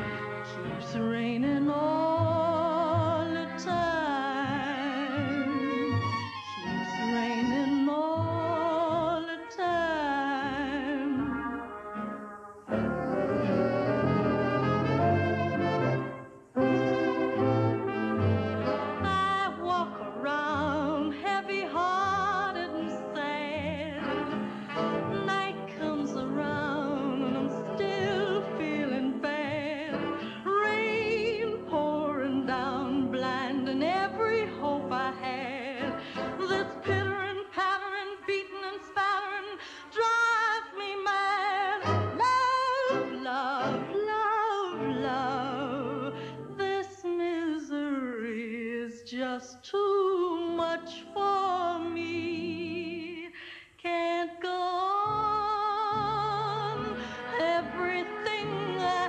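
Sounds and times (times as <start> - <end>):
slow orchestral music: 0.0 - 39.6, 41.2 - 46.6, 55.1 - 59.0.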